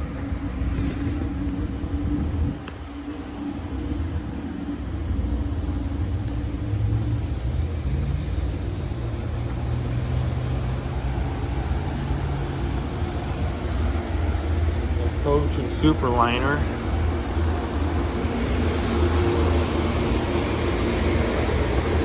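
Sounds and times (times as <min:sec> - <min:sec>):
passenger train cars rolling past: 0:00.0 - 0:22.0.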